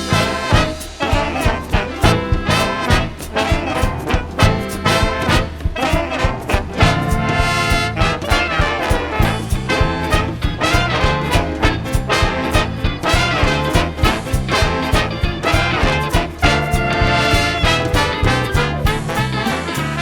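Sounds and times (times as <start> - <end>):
big band playing swing: 0.0 - 20.0.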